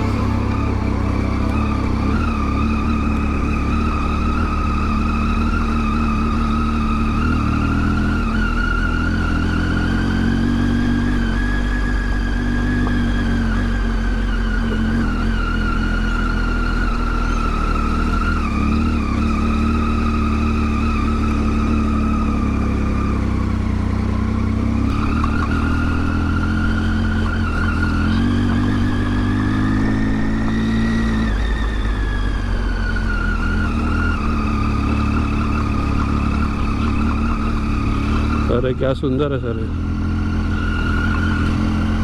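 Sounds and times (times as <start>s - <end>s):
motorcycle engine revving: 0.0s - 42.0s
wind and road noise: 0.0s - 42.0s.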